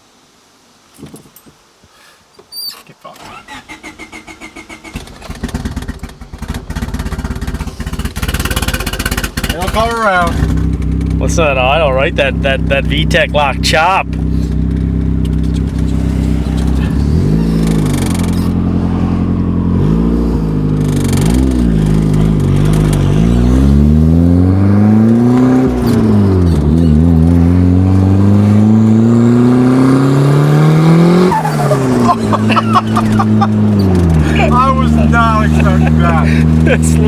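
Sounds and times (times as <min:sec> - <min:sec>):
turbocharged car engine revving: 0:03.5 - 0:37.0.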